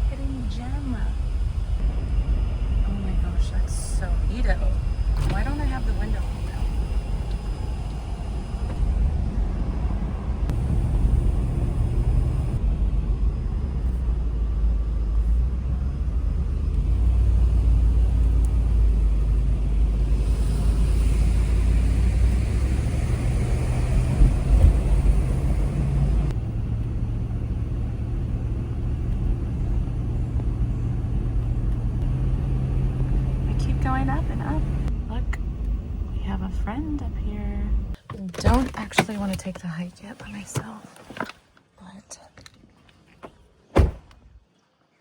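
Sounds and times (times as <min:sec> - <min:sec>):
car engine and tyres rumbling: 0:00.0 - 0:44.7.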